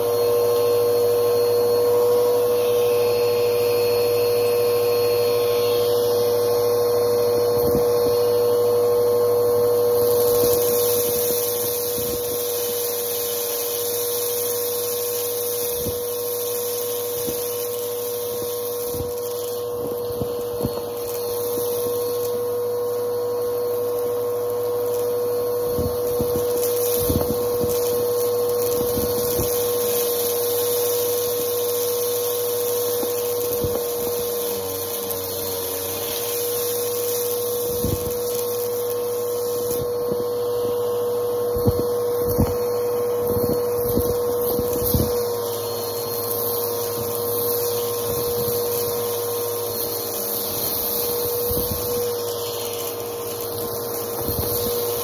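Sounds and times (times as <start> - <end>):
vacuum cleaner whining: 0.0 - 55.0
debris clicking in hose: 10.0 - 40.6, 41.3 - 55.0.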